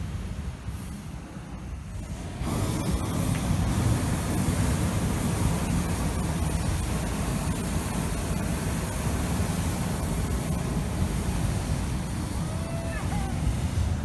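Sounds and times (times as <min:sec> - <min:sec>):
propane burner roaring hiss: 0:00.0 - 0:14.0.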